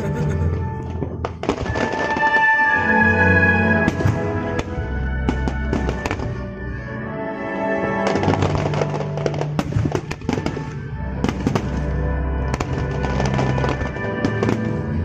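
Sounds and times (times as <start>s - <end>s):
music playing: 0.0s - 15.0s
fireworks bangs and crackles: 0.4s - 6.8s, 7.9s - 15.0s.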